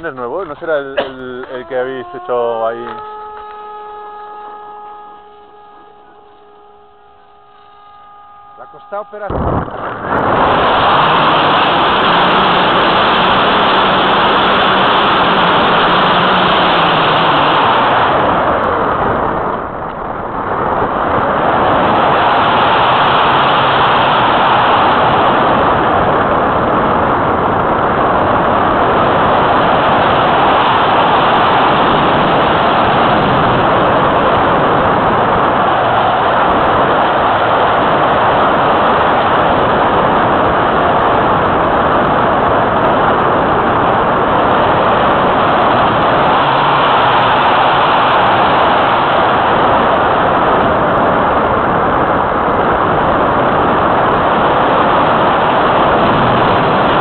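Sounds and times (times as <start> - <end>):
rush of air over wing: 0.0 - 57.0.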